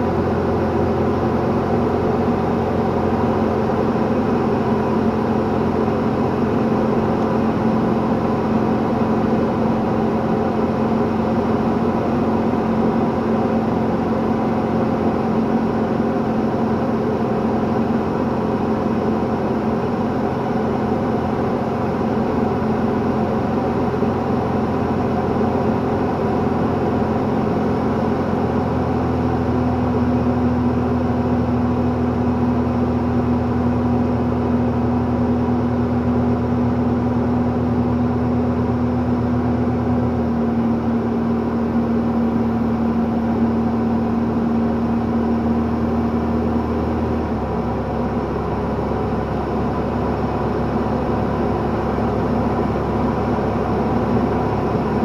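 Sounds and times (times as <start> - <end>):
airplane engine drone in cockpit: 0.0 - 55.0.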